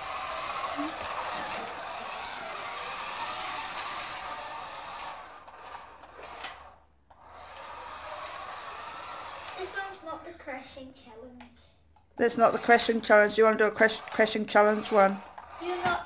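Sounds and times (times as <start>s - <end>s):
toy car motor whirring: 0.0s - 10.9s, 12.2s - 16.0s.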